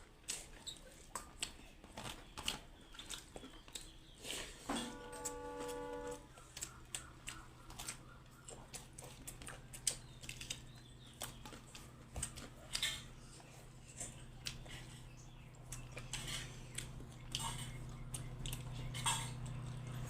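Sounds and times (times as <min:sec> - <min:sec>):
chewing crunches: 0:00.0 - 0:20.0
faint low hum: 0:00.0 - 0:20.0.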